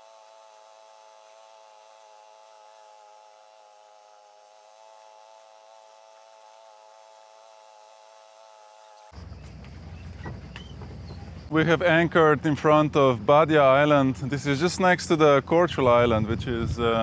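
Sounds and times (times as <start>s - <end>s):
faint buzzing hum: 0.0s - 17.0s.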